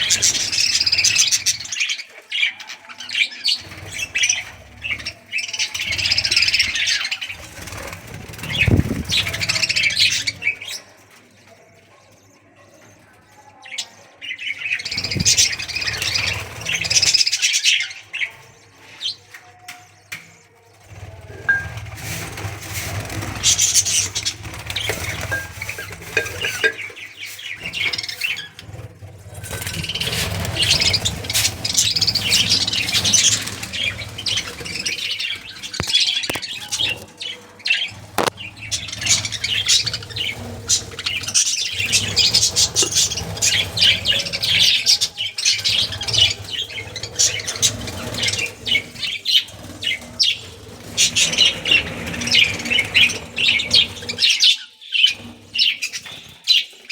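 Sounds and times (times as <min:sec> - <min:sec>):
budgerigars chattering: 0:00.0 - 0:10.8, 0:14.3 - 0:18.3, 0:20.9 - 0:28.8, 0:29.4 - 0:56.7.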